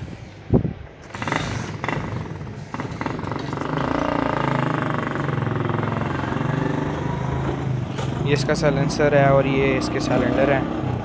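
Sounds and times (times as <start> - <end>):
vehicle engine running: 0.9 - 11.0.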